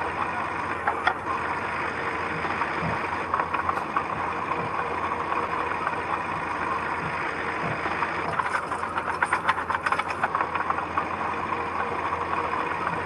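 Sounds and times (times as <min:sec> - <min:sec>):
diesel engine running: 0:00.0 - 0:13.0
rapid rattling clatter: 0:00.0 - 0:13.0.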